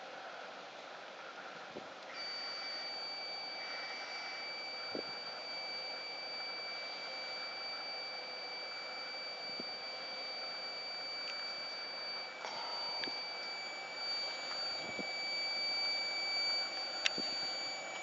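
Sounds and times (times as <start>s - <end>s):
blower fan whining: 0.0s - 18.0s.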